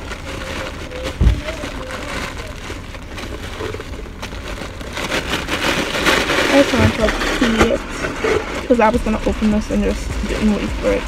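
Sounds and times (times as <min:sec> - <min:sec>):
low steady hum: 0:00.0 - 0:11.0
plastic packaging crinkling: 0:00.0 - 0:11.0.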